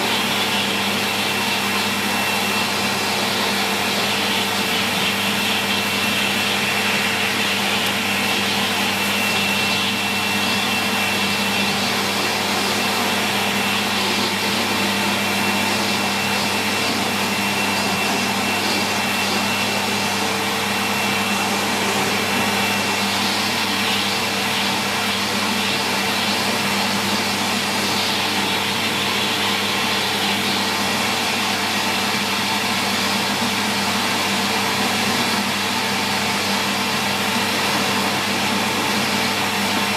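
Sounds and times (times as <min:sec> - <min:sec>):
thin high whine: 0:00.0 - 0:39.9
vacuum cleaner running: 0:00.0 - 0:39.9.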